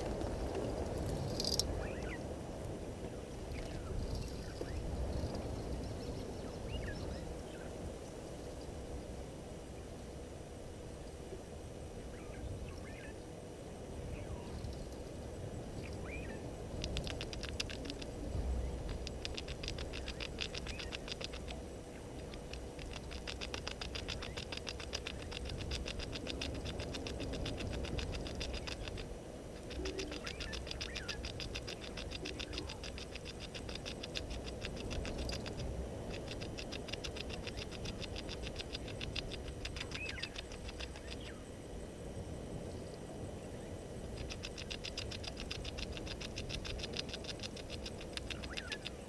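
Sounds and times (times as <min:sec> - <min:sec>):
insects ticking fast: 0:00.0 - 0:02.2, 0:03.2 - 0:07.6, 0:13.8 - 0:49.0
steady low rumble: 0:00.0 - 0:49.0
faint bird chirps: 0:01.4 - 0:02.2, 0:03.3 - 0:08.7, 0:12.0 - 0:13.4, 0:14.0 - 0:15.1, 0:15.7 - 0:41.6, 0:42.6 - 0:49.0.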